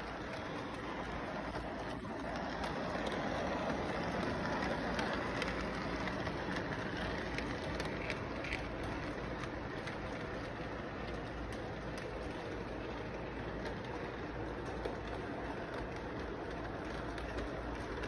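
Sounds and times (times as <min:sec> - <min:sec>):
light clicks from wheels: 0:00.0 - 0:18.0
toy train running on track: 0:00.0 - 0:18.0.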